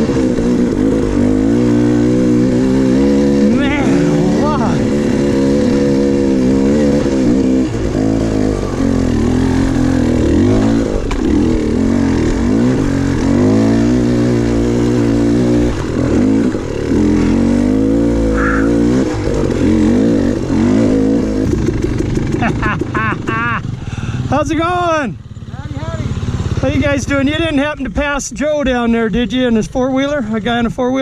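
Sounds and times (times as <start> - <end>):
dirt bike engine revving: 0.0 - 24.4, 25.2 - 27.8.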